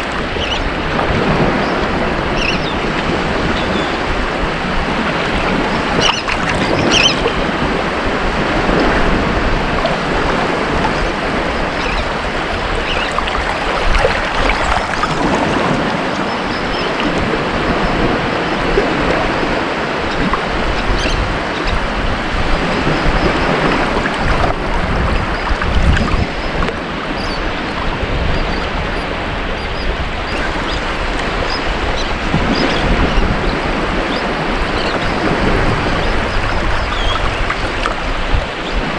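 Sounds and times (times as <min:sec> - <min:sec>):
surf washing onto a beach: 0:00.0 - 0:38.9.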